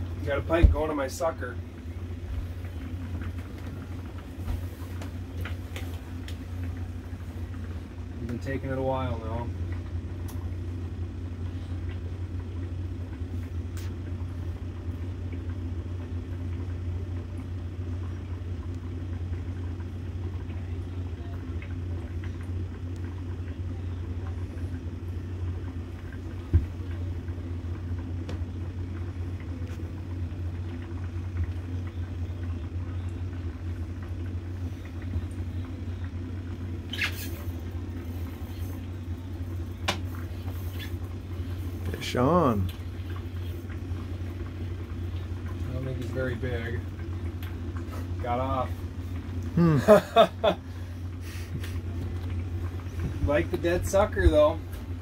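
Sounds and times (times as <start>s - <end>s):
low machine hum: 0.0s - 55.0s.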